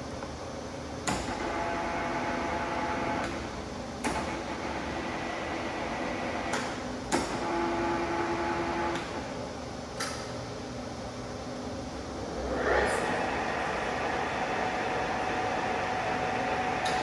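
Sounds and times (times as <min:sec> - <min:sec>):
lathe humming and whining: 0:01.4 - 0:09.7, 0:11.0 - 0:17.0.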